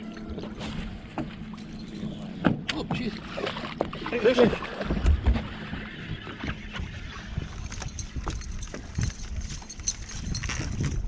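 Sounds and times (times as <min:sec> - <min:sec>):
waves lapping against boat hull: 0:00.0 - 0:11.0.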